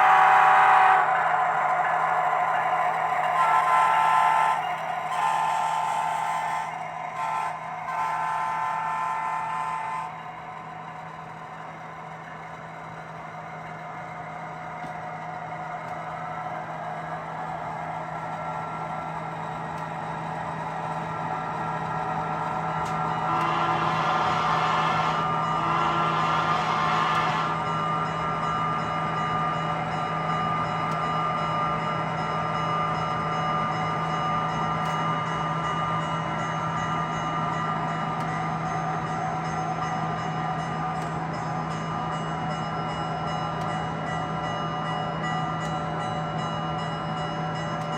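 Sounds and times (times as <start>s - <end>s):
model locomotive engine hum: 0.0s - 47.9s.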